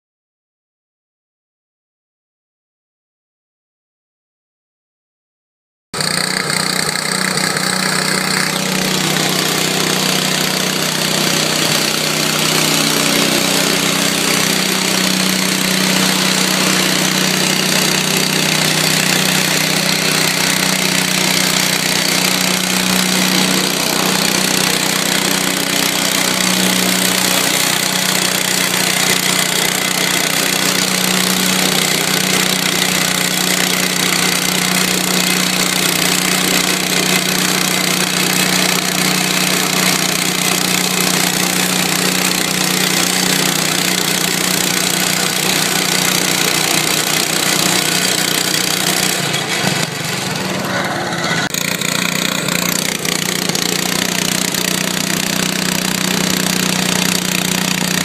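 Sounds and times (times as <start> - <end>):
tractor engine running hard: 6.0 - 58.0.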